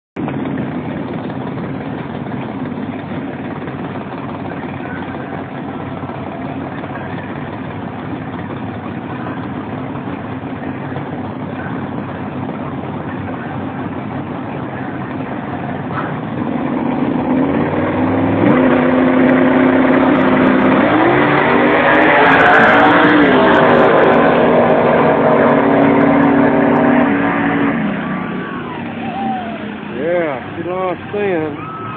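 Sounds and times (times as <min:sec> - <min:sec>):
drag race car engines accelerating: 0:00.2 - 0:31.9.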